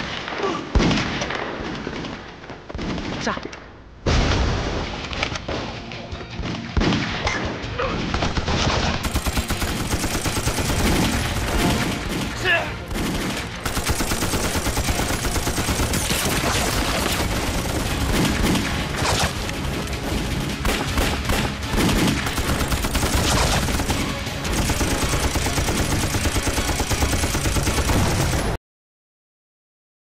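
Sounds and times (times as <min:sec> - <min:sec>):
dense gunfire volleys: 0:00.0 - 0:05.8, 0:06.4 - 0:28.6.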